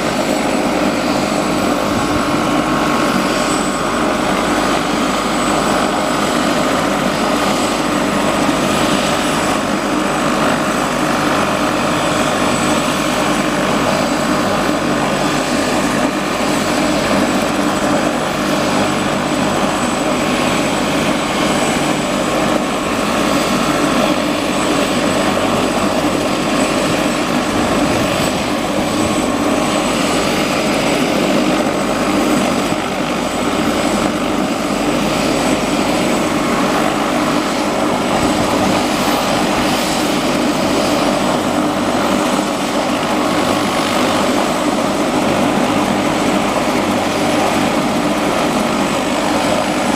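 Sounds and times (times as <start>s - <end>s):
helicopter engine and rotor: 0.0s - 49.9s.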